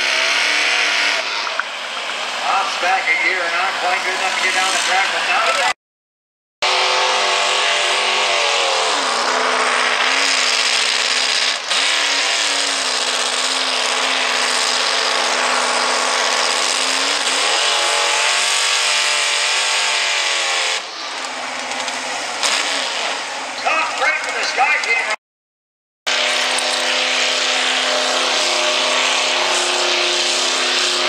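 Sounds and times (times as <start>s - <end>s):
tractor engine at full throttle: 0.0s - 5.8s, 6.6s - 25.2s, 26.1s - 31.0s.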